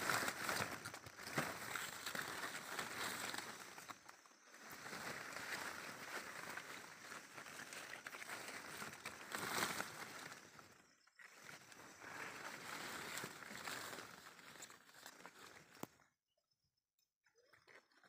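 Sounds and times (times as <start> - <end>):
leaves rustling against camera: 0.0 - 16.0.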